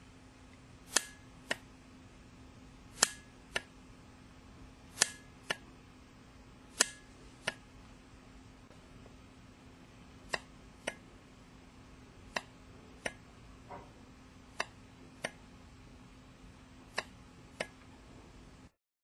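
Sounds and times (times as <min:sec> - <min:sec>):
faint steady hum: 0:00.0 - 0:18.8.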